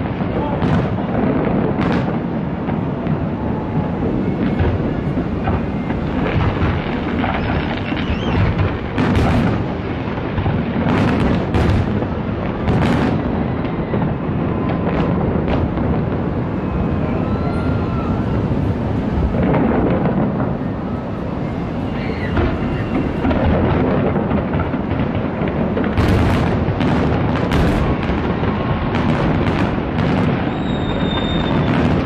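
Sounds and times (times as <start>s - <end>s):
fireworks booming: 0.0s - 32.0s
sharp firework cracks: 0.0s - 32.0s.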